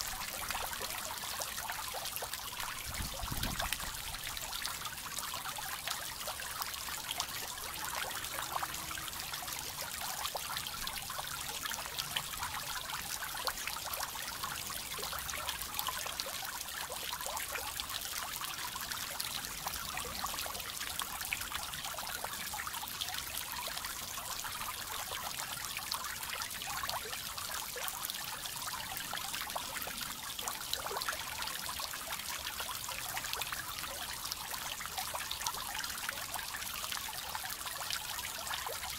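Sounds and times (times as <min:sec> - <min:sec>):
fountain water pattering: 0:00.0 - 0:38.9.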